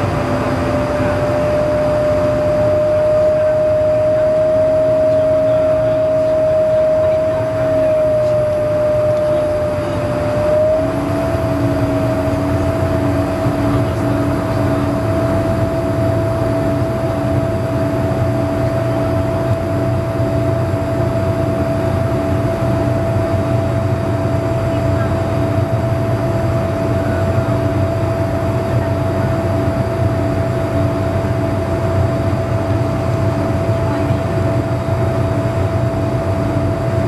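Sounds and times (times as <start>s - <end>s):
engine whine: 0.0s - 37.0s
jet engine rush: 0.0s - 37.0s.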